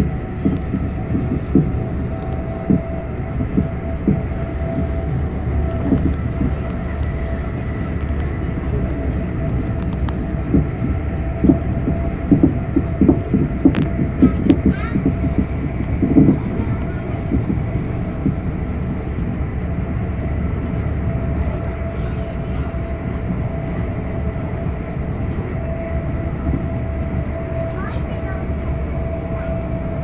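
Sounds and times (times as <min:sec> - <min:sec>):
faint steady tone: 0:00.0 - 0:30.0
train wheels rumbling on rail: 0:00.0 - 0:30.0.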